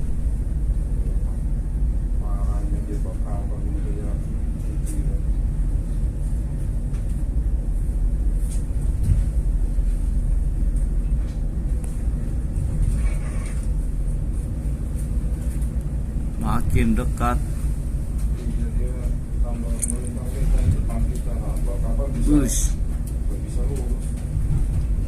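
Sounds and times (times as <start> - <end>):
low rumble aboard a boat: 0.0 - 25.0.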